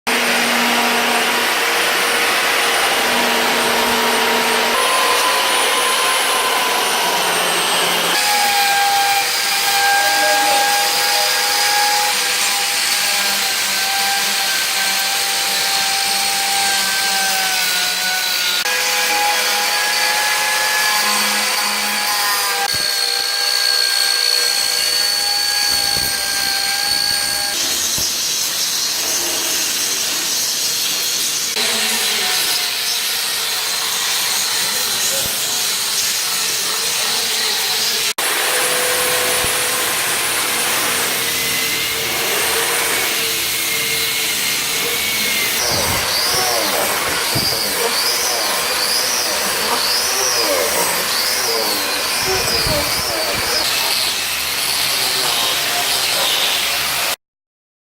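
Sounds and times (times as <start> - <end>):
power tool motor whine: 0.1 - 57.2
cutting and sanding hiss: 0.2 - 57.2.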